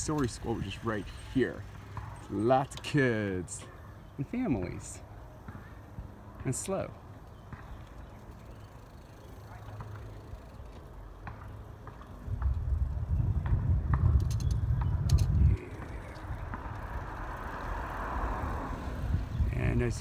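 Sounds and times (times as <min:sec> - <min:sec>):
bicycle road and air rumble: 0:00.0 - 0:20.0.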